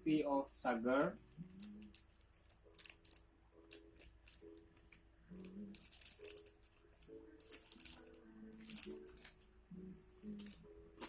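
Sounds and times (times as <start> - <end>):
soft slow background music: 0.0 - 11.0
crisp crackling and scraping: 1.2 - 9.5, 10.2 - 11.0.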